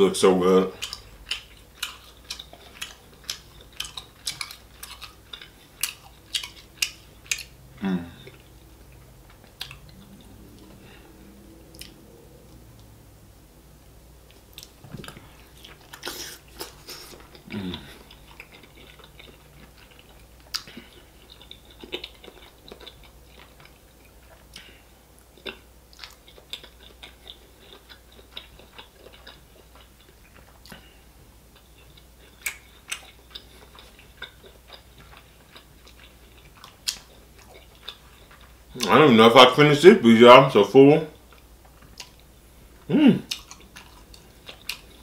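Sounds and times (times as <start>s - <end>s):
person chewing seafood: 0.7s - 12.9s, 14.3s - 39.0s, 41.2s - 45.0s.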